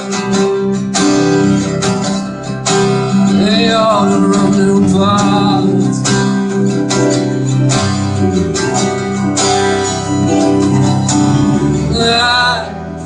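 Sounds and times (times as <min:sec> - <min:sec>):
live band music: 0:00.0 - 0:13.0
strummed acoustic guitar: 0:00.0 - 0:13.0.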